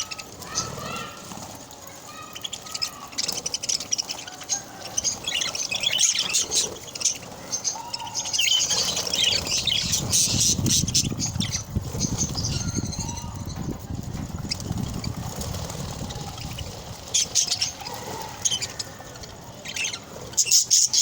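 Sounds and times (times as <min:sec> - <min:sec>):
budgerigars chattering: 0:02.1 - 0:13.7, 0:14.4 - 0:21.0.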